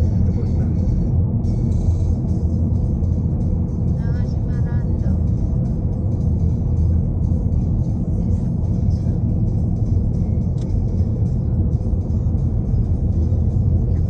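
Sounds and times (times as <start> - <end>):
music: 0.0 - 14.0
steady low rumble: 0.0 - 14.0.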